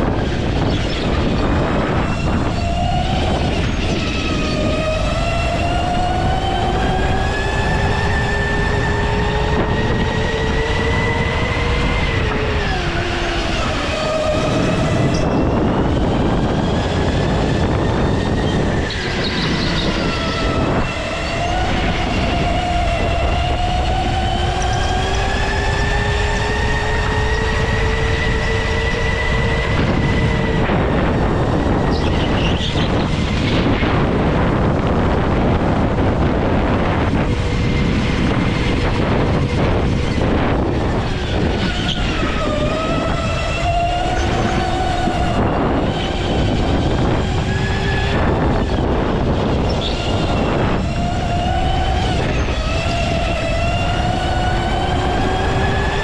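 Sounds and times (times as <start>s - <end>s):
go-kart motor accelerating: 0.0s - 56.0s
wind rushing: 0.0s - 56.0s.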